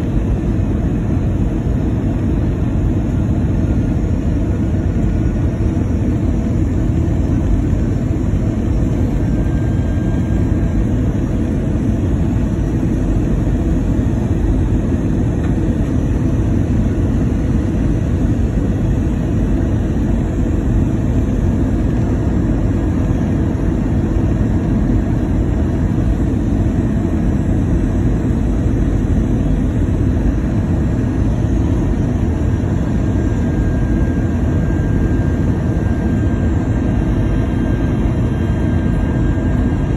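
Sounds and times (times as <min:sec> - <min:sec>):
airliner cabin roar: 0:00.0 - 0:39.9.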